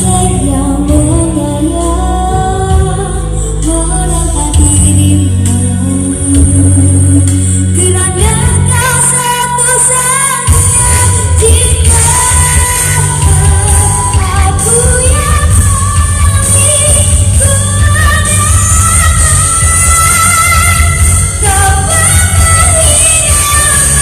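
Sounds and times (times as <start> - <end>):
amplified backing music: 0.0 - 24.0
boy singing into a microphone: 0.0 - 24.0.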